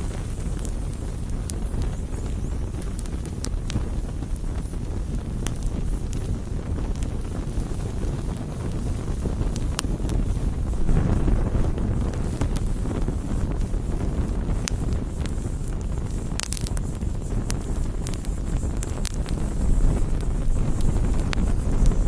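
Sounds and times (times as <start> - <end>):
campfire rumbling: 0.0 - 22.0
fire crackles and pops: 0.0 - 22.0.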